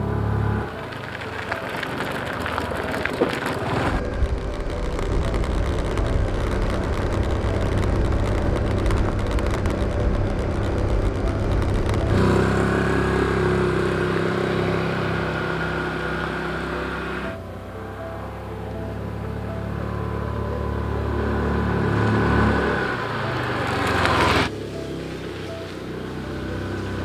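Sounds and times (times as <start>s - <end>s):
vehicle rumbling: 0.0s - 27.0s.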